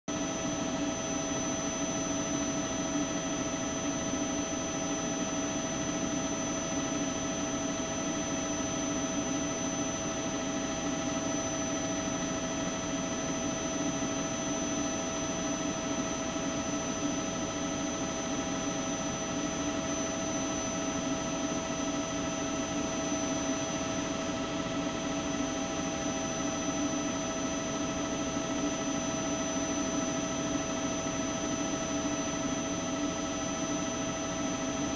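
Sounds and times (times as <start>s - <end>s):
helicopter engine roar and whine: 0.1s - 34.9s.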